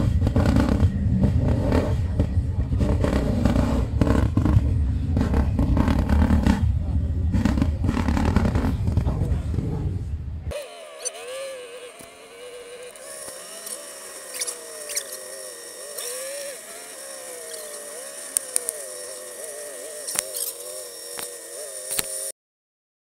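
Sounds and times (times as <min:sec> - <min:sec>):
engine running at changing revs: 0:00.0 - 0:22.3.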